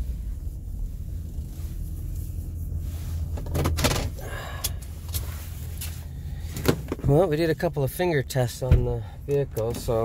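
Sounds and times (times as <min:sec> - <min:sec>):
van engine low rumble: 0:00.0 - 0:10.0.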